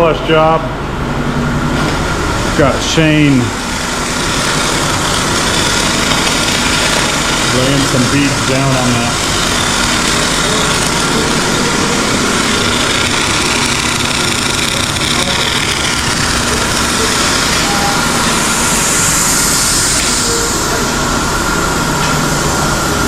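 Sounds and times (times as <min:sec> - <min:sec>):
shop machinery running: 0:00.0 - 0:23.0.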